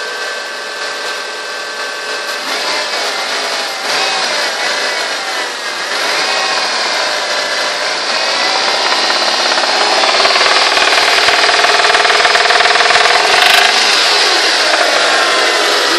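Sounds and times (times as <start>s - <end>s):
car engine running with a knock: 1.6s - 15.9s.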